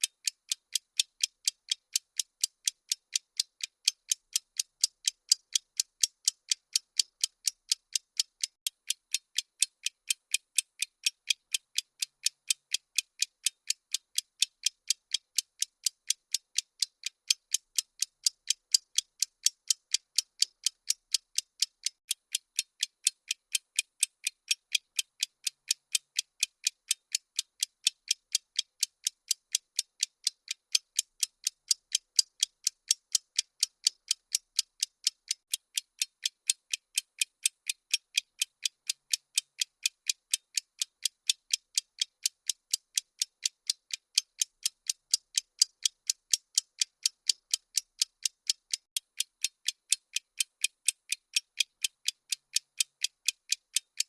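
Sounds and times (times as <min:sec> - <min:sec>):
fast clock ticks: 0:00.0 - 0:54.0.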